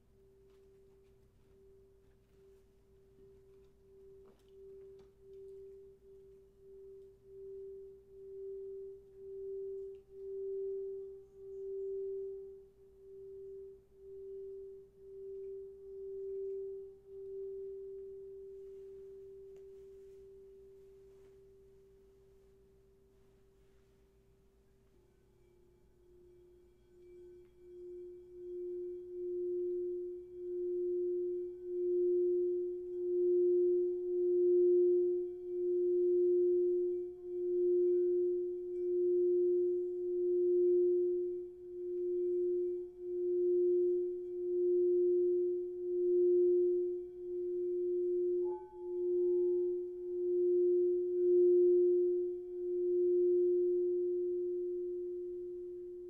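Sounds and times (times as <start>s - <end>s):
higher bowl tone: 0.0s - 56.0s
singing bowl low tone: 0.0s - 56.0s.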